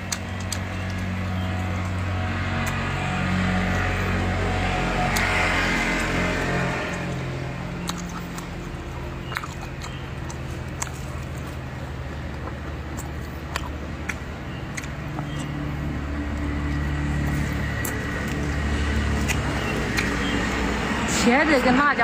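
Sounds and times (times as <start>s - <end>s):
person chewing with lips closed: 0.0s - 2.9s, 5.0s - 20.9s
low steady hum: 0.0s - 22.0s.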